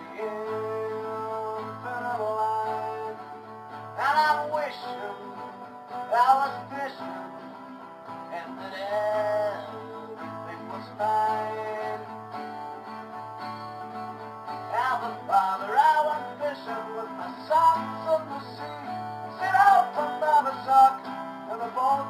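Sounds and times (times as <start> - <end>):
man singing: 0.0 - 7.6, 8.2 - 12.6, 14.6 - 22.0
acoustic guitar strumming: 0.0 - 22.0.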